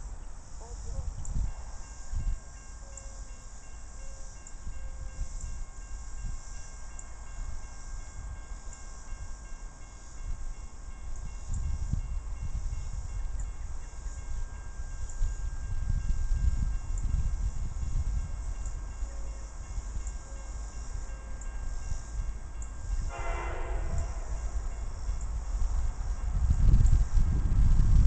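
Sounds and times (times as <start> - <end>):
distant diesel locomotive rumble: 0.0 - 28.0
multi-tone whine: 0.0 - 28.0.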